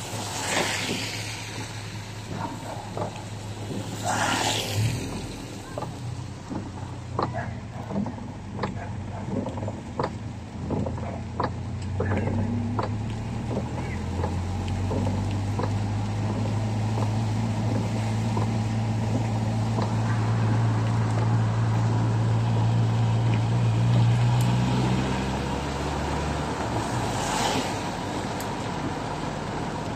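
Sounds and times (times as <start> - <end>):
tyres hissing on wet road: 0.0 - 7.2, 12.4 - 29.9
car engine and road drone: 0.0 - 29.9.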